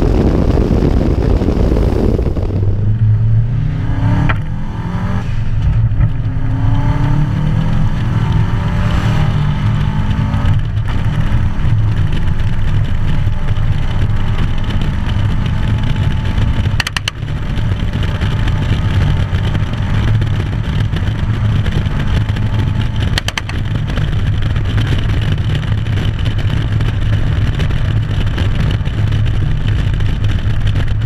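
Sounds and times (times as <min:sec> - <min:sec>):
car engine running hard: 0:00.0 - 0:31.0
road noise: 0:00.0 - 0:31.0.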